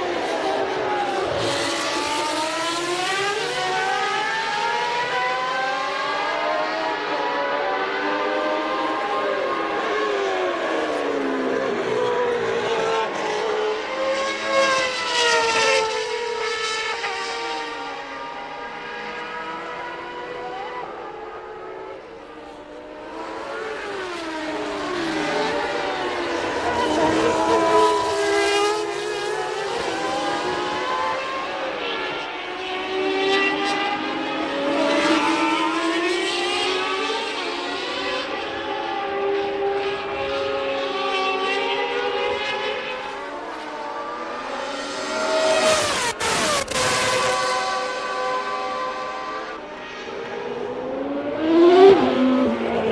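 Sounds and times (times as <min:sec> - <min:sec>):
racing engines at high revs: 0:00.0 - 0:52.9.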